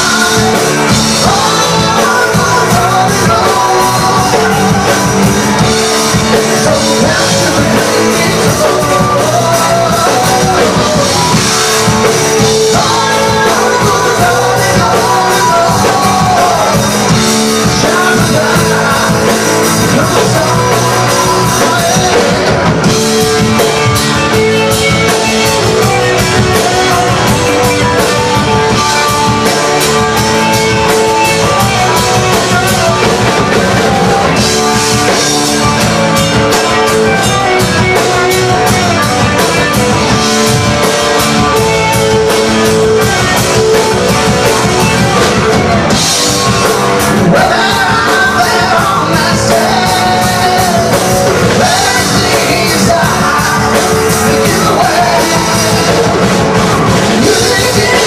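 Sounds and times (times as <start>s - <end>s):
drum kit beat: 0.0s - 58.0s
electric guitar: 0.0s - 58.0s
person singing: 0.0s - 58.0s
rock band playing: 0.0s - 58.0s.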